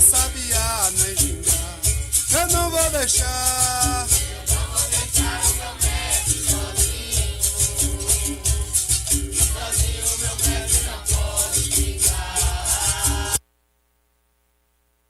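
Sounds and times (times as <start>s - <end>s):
berimbau playing: 0.0s - 13.4s
person singing: 0.0s - 13.4s
shaker rattle: 0.0s - 13.4s.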